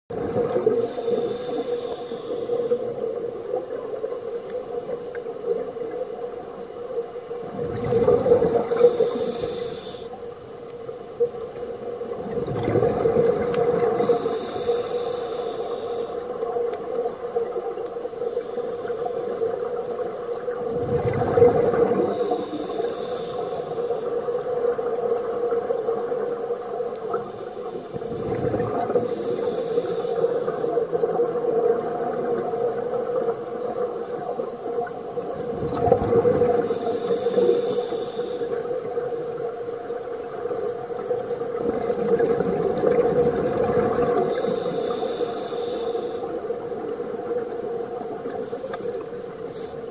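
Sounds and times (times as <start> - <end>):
exhaled bubbles gurgling: 0.1 - 49.9
steady underwater hum: 0.1 - 49.9
regulator inhale hiss: 0.2 - 6.2, 8.2 - 10.8, 11.6 - 31.2, 36.4 - 43.1, 43.9 - 49.9.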